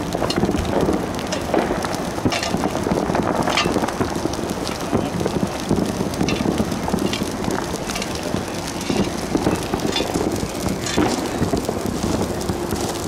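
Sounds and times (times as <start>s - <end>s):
dry grass burning and crackling: 0.0s - 13.0s.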